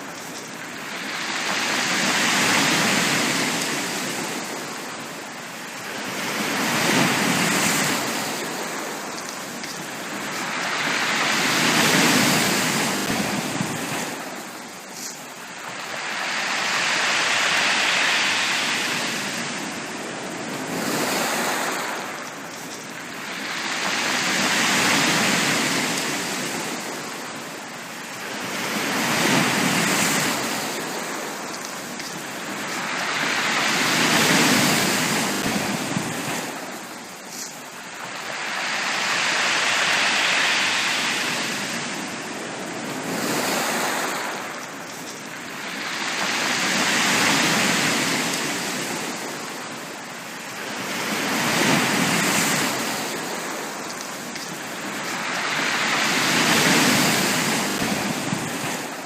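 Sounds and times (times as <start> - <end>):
sea waves breaking on a beach: 0.0 - 59.0.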